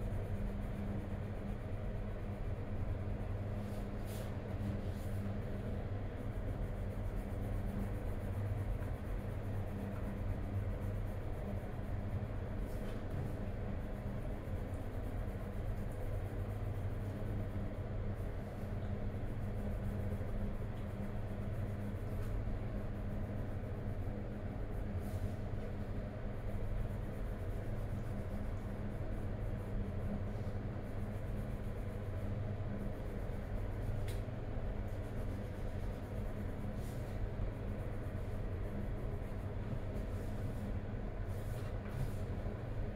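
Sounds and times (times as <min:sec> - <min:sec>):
pencil scratching on paper: 0:00.0 - 0:42.9
steady low hum: 0:00.0 - 0:42.9.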